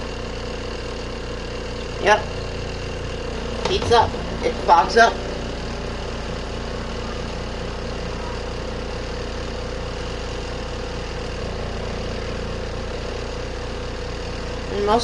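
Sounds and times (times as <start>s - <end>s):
washing machine spinning: 0.0s - 15.0s.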